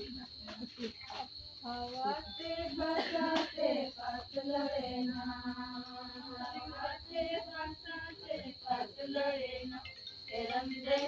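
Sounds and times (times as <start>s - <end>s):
steady high-pitched whine: 0.0s - 11.0s
women singing a slow chant: 0.0s - 11.0s.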